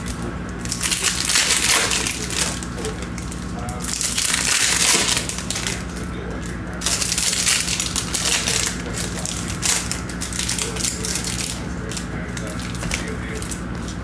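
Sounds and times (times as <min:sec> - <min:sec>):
foil wrappers tearing and crinkling: 0:00.0 - 0:14.0
low steady hum: 0:00.0 - 0:14.0.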